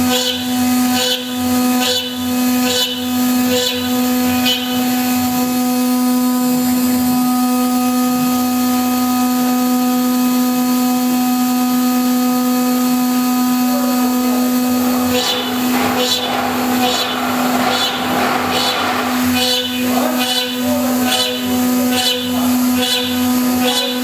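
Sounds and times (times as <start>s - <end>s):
end mill cutting metal: 0.0s - 24.0s
router spindle whining: 0.0s - 24.0s.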